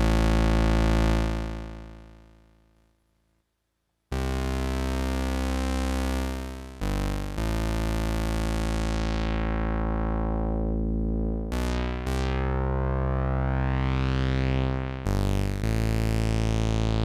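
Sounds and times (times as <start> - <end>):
buzzy synthesizer bass notes: 0.0 - 2.2, 4.2 - 17.0.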